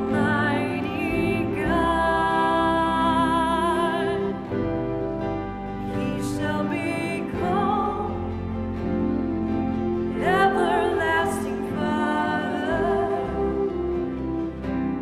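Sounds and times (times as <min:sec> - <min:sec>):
person singing with vibrato: 0:00.0 - 0:14.7
instrumental accompaniment: 0:00.0 - 0:15.0.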